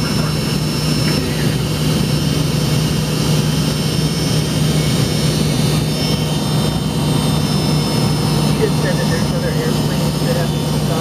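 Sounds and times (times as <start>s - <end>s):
jet engine cabin hum: 0.0s - 11.0s.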